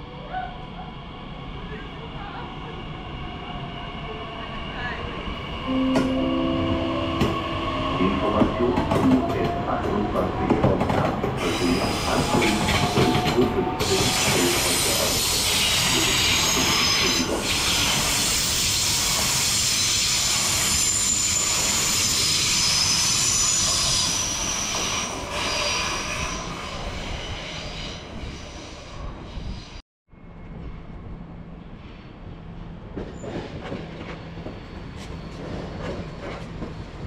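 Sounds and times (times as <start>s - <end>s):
train rolling on rails: 0.0s - 37.0s.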